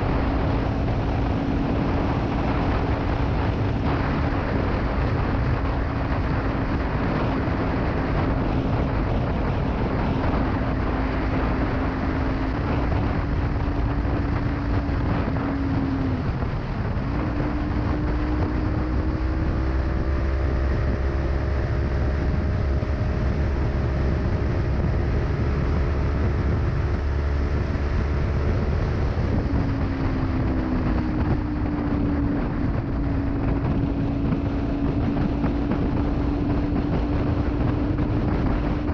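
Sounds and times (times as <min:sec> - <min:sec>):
motorcycle engine at speed: 0:00.0 - 0:38.9
wind rumble on microphone: 0:00.0 - 0:38.9.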